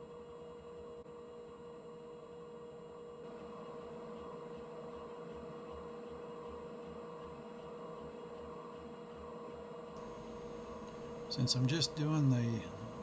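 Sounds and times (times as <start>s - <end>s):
lathe motor hum with whine: 0.0s - 13.0s.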